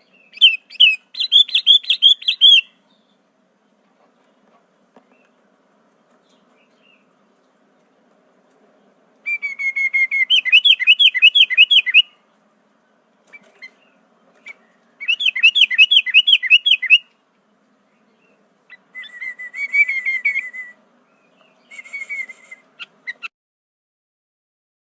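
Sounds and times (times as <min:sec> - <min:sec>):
bird chirping: 0:00.0 - 0:04.4, 0:05.0 - 0:08.1, 0:08.8 - 0:23.3.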